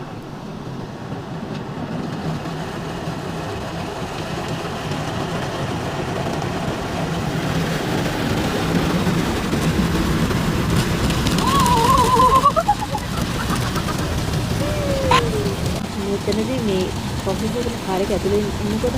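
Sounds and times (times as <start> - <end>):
car wash brushes churning: 3.3 - 18.9.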